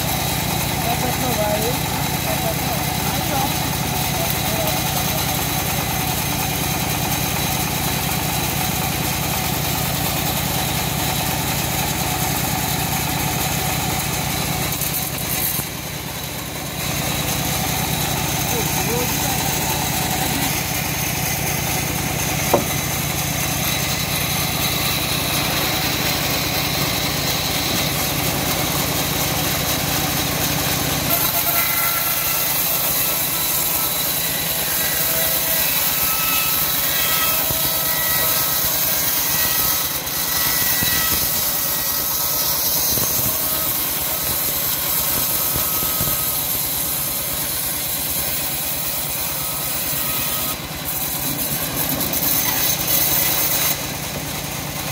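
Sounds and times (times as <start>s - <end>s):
band sawmill running: 0.0s - 54.9s
blade sawing through wood: 0.0s - 54.9s.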